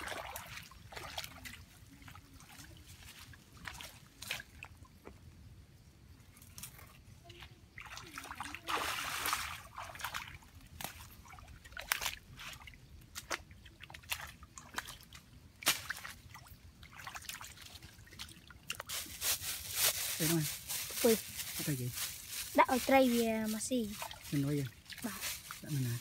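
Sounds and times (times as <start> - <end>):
muddy water sloshing and splashing: 0.0 - 5.2, 6.4 - 26.0.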